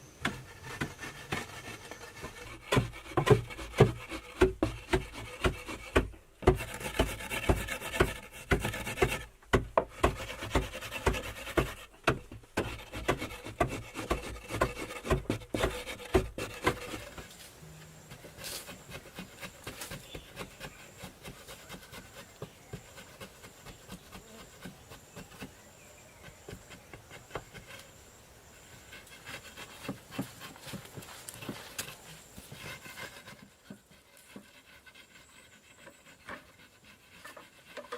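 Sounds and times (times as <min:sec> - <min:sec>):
rhythmic scraping on wood: 0:00.0 - 0:37.9.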